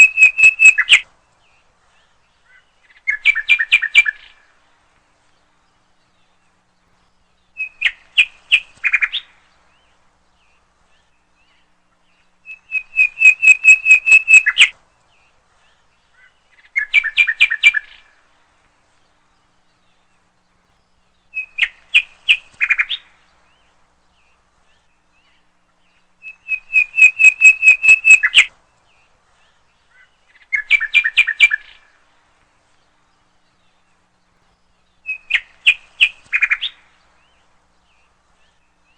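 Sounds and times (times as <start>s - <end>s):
songbird rapid chirps: 0.0s - 38.9s.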